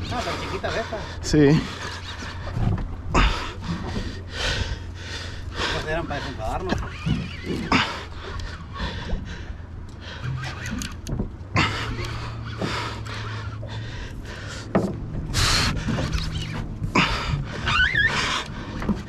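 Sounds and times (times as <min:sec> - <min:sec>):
outboard motor idling: 0:00.0 - 0:19.0.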